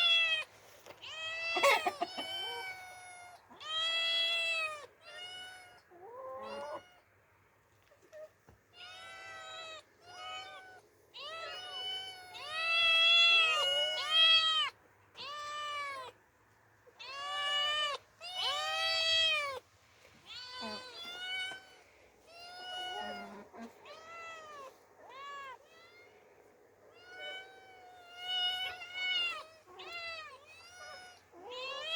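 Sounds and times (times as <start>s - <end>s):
cats meowing: 0.0s - 7.2s, 7.9s - 16.2s, 16.9s - 31.9s.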